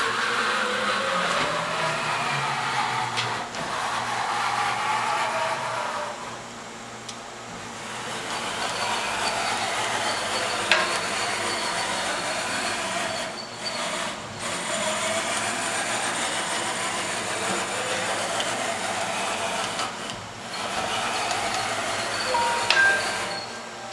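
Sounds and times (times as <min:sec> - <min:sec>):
machining center running: 0:00.0 - 0:23.9.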